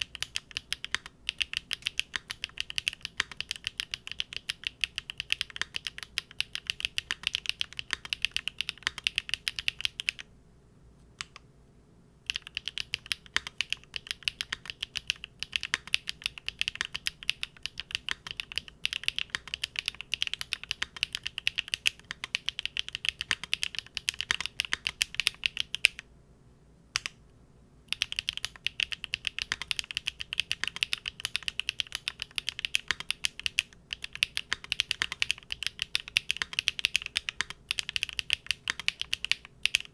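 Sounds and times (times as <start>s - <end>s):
mechanical keyboard fast typing: 0.0s - 10.3s, 12.3s - 26.0s, 27.9s - 39.9s.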